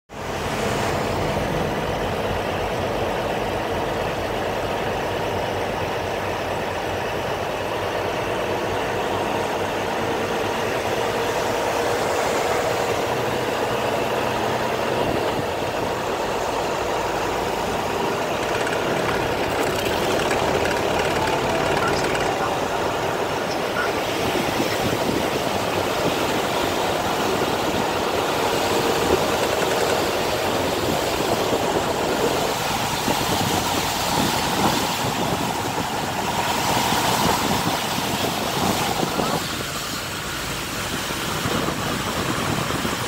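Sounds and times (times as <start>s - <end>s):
diesel engine running: 0.1s - 43.0s
road noise: 0.1s - 43.0s.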